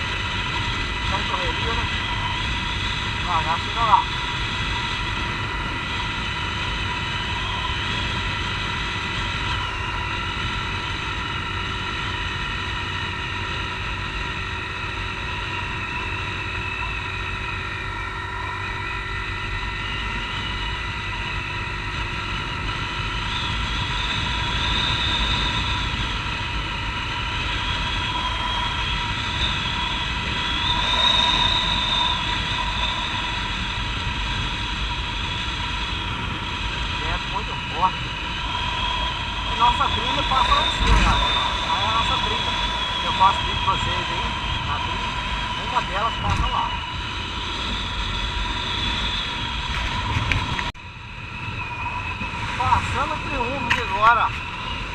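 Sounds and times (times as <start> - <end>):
wind rumble: 0.0 - 54.9.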